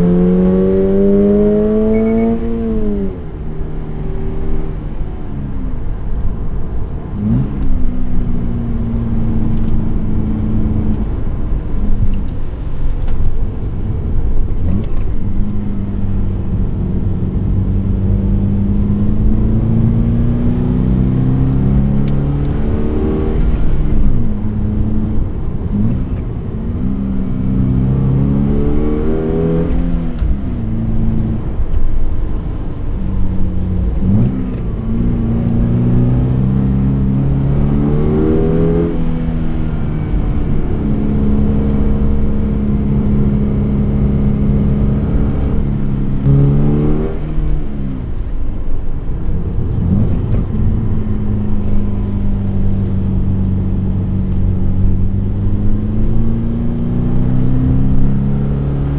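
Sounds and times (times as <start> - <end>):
car engine revving under load: 0.0 - 58.9.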